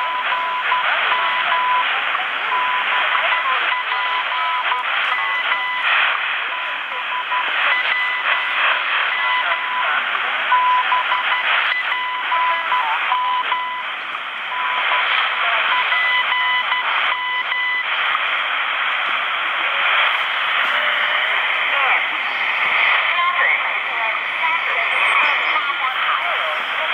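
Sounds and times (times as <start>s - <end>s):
high steady radio tone: 0.0s - 26.9s
radio static hiss: 0.0s - 26.9s.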